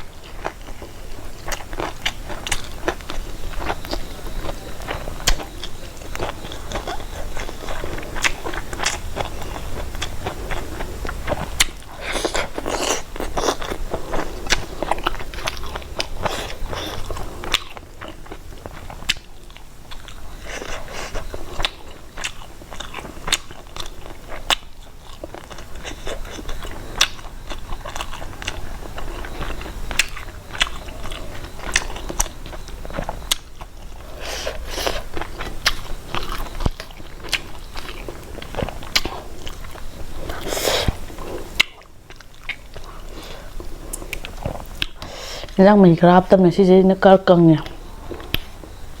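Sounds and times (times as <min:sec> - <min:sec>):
person chewing crunchy food: 0:00.0 - 0:45.6, 0:47.5 - 0:49.0.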